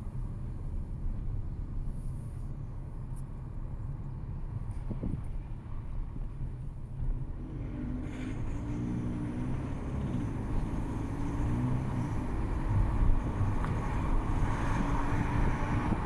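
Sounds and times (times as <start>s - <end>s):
diesel engine low rumble: 0.0s - 16.0s.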